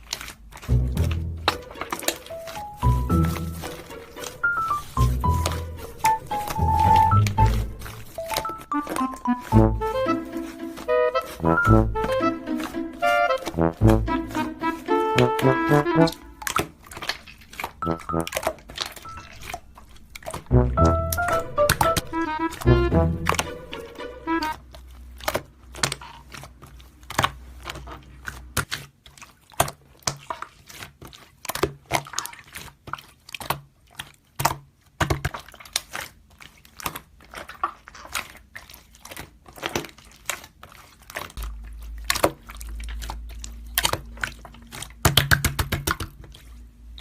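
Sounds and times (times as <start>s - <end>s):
slime squelching and clicking: 0.0s - 47.0s.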